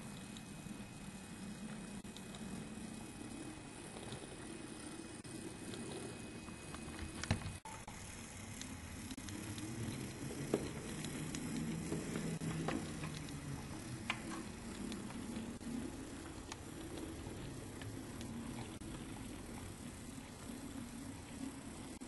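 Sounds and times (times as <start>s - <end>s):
small electric motor humming: 0.0s - 22.0s
wheels clicking on rails: 0.0s - 22.0s.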